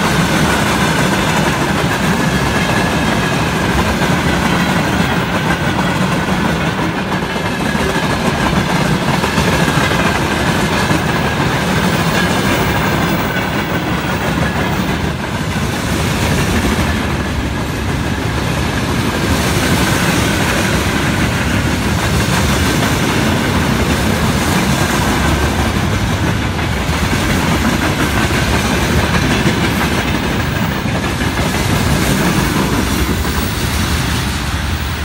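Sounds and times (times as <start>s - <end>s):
train wheels rumbling and clattering: 0.0s - 35.0s.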